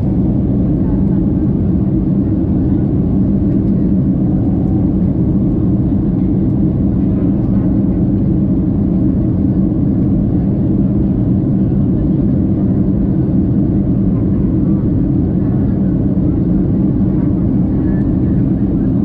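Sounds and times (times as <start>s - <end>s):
jet airliner cabin noise: 0.0s - 19.0s.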